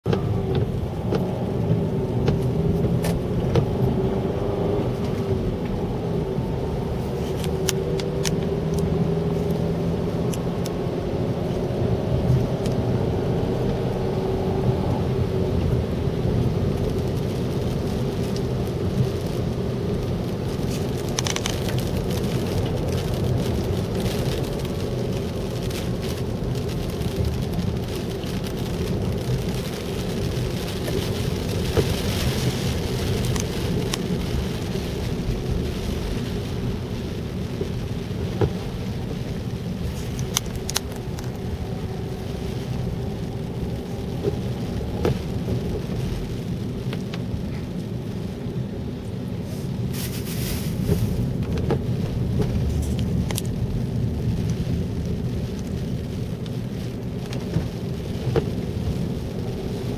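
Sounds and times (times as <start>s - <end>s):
car engine and tyres rumbling: 0.0s - 59.9s
rain ticking on windshield: 0.0s - 59.9s.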